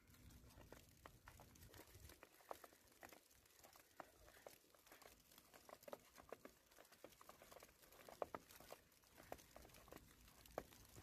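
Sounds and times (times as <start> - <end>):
snow pattering faintly: 0.0 - 11.0.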